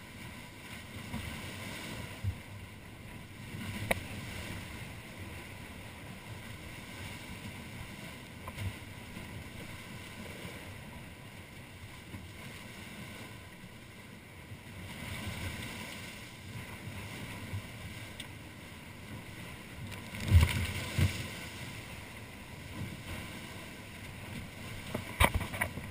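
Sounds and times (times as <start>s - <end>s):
water rushing along hulls: 0.0s - 25.9s.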